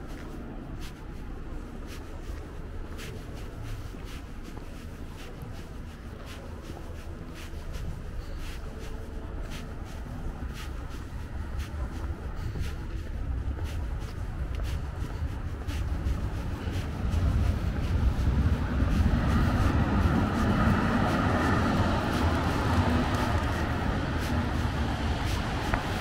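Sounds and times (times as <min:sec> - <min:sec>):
footsteps on paving stones: 0:00.0 - 0:26.0
traffic rumble: 0:00.0 - 0:26.0.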